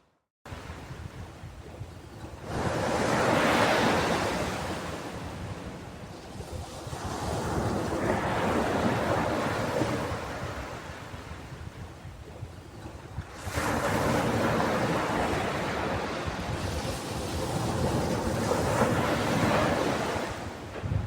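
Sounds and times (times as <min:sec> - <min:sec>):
ocean waves washing on beach: 0:00.5 - 0:21.0.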